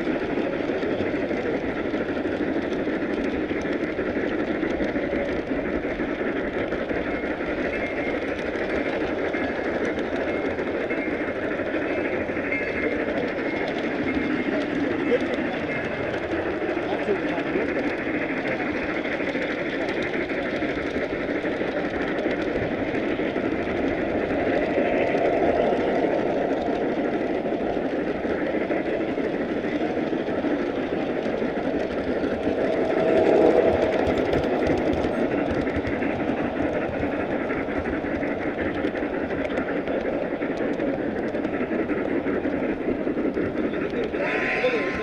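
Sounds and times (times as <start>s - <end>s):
model train clattering on track: 0.0s - 45.0s.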